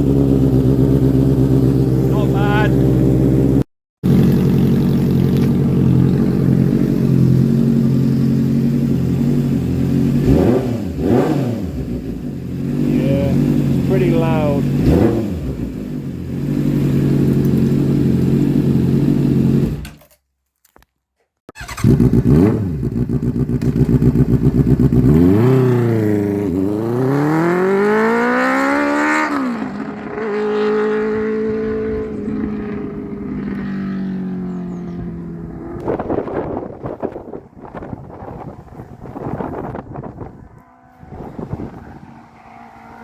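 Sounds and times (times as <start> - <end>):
motorcycle engine revving: 0.0 - 20.0, 21.5 - 43.0.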